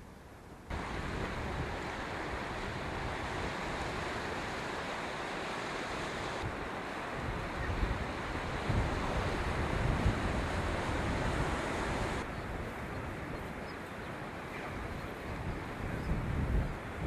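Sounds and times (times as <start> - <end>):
strong wind buffeting microphone: 0.7 - 4.8, 5.6 - 17.0
sea surf: 0.7 - 17.0.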